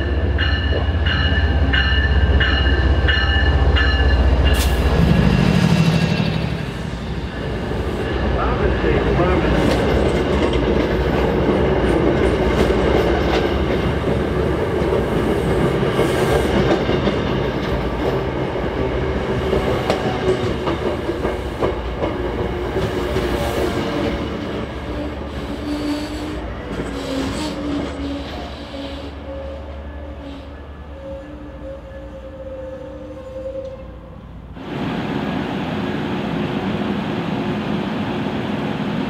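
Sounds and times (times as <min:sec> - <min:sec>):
train rolling on rails: 0:00.0 - 0:39.0.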